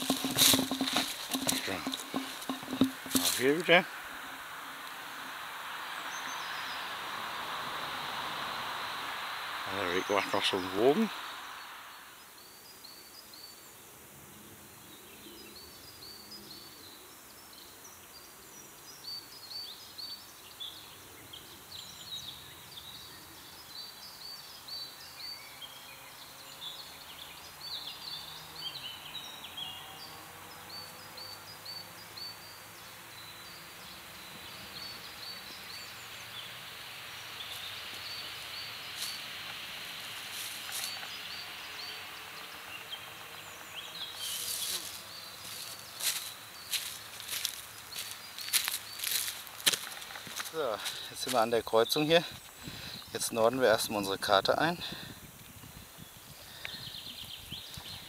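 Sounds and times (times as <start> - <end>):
small birds chirping and singing: 9.7 - 58.0.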